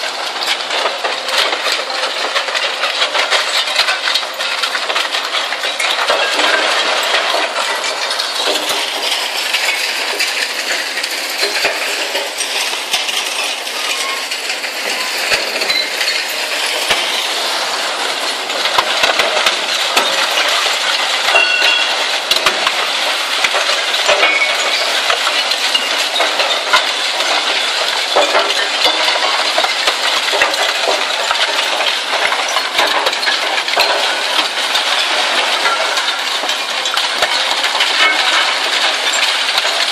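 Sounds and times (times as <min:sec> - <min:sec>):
shredder grinding scrap metal: 0:00.0 - 0:39.9.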